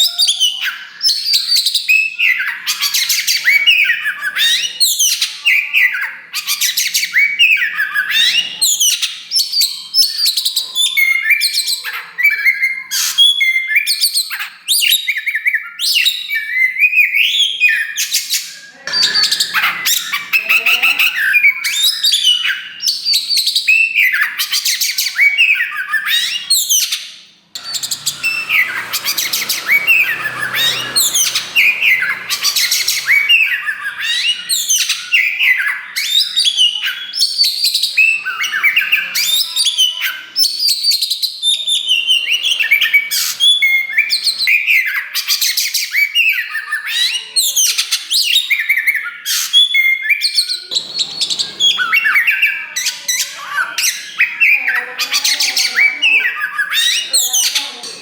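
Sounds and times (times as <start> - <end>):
magpie-robin singing: 0.0 - 58.0.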